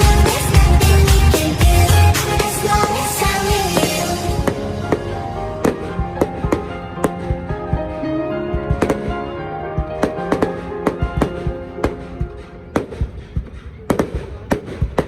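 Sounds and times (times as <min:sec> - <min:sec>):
fireworks bangs: 0:00.0 - 0:08.0, 0:08.6 - 0:15.0
music playing: 0:00.0 - 0:13.2.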